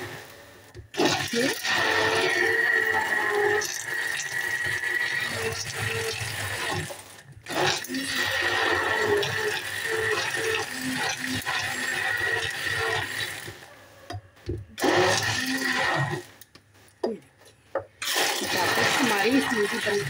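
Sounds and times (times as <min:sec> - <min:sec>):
hand blender motor whining: 0:01.0 - 0:13.6, 0:14.8 - 0:16.3, 0:18.0 - 0:20.0.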